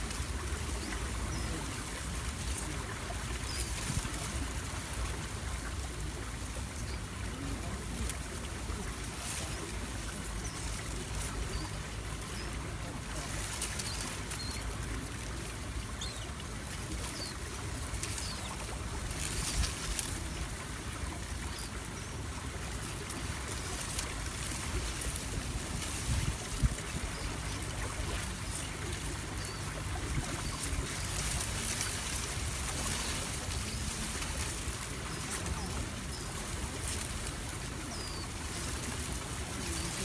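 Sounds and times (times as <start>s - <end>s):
river water flowing gently: 0.0s - 40.0s
wind rumbling on microphone: 0.0s - 40.0s.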